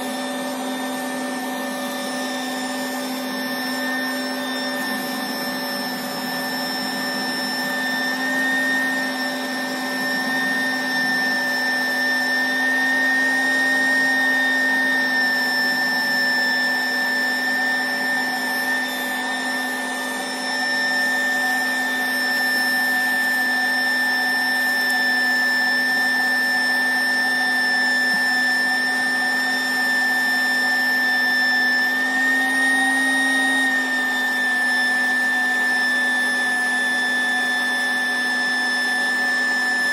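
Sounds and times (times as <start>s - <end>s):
electric air pump motor whine: 0.0s - 39.9s.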